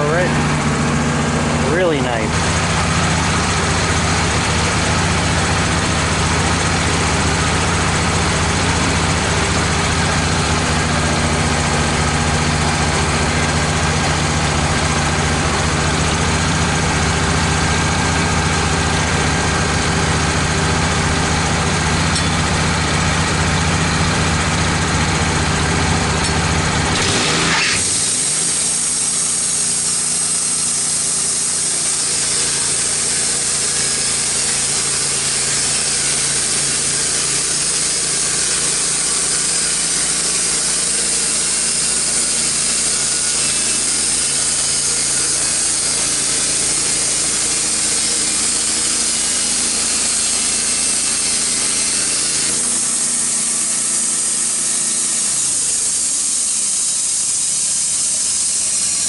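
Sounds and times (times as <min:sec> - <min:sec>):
band sawmill sawing log: 0:00.0 - 0:59.0.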